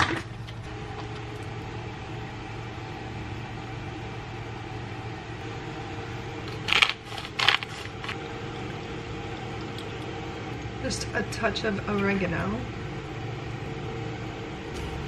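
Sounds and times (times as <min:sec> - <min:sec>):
kitchen appliance hum: 0:00.0 - 0:15.0.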